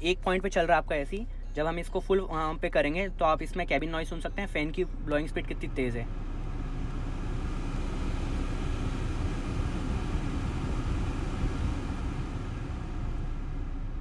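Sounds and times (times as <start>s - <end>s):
air conditioning fan blowing: 0.0s - 14.0s.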